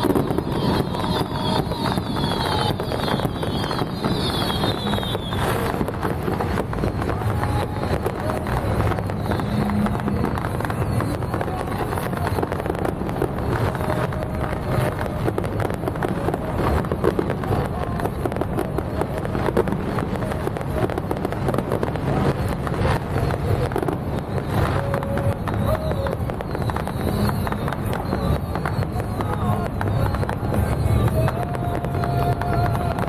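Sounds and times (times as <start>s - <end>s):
fireworks crackling: 0.0s - 33.0s.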